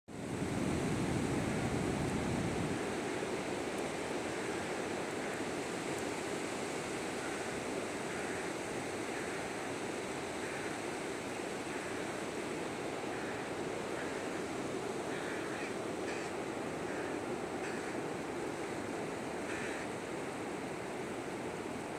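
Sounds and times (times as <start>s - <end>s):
surf washing onto beach: 0.1s - 21.9s.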